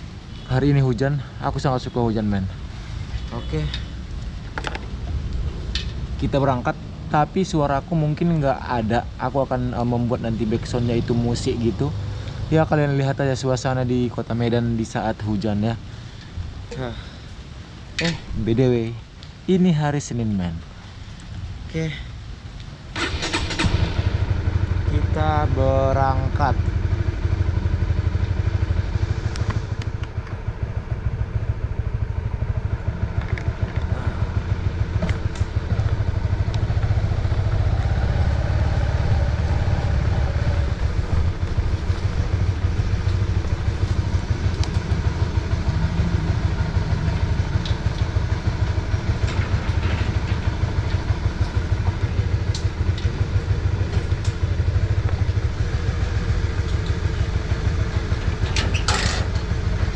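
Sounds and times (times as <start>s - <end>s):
motorcycle engine rumbling: 0.0s - 19.7s, 20.6s - 59.9s.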